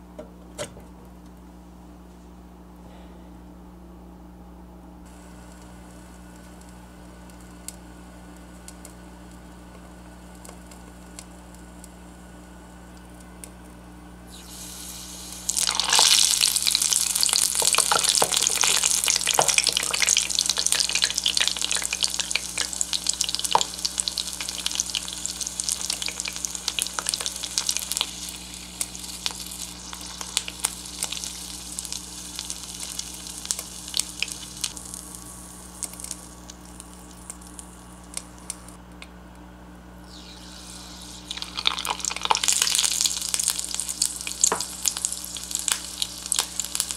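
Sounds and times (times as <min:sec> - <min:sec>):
oil crackling sizzle: 0:05.1 - 0:38.8, 0:40.0 - 0:46.9.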